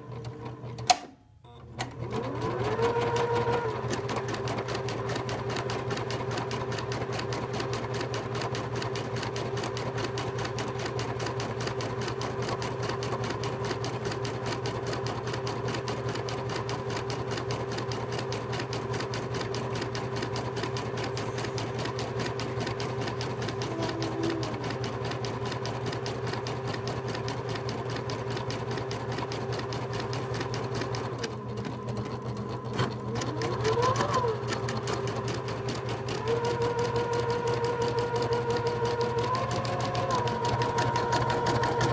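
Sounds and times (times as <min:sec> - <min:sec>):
embroidery machine stitching: 0:00.0 - 0:01.0, 0:01.8 - 0:41.9.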